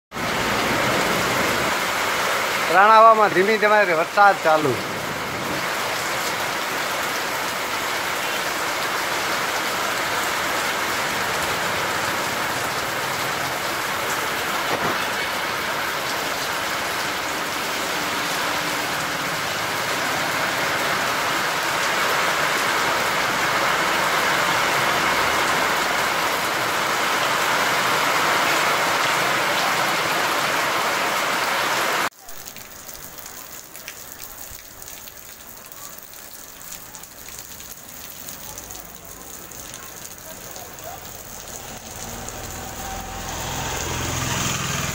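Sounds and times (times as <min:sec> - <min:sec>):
rain falling on puddles: 0:00.1 - 0:44.9.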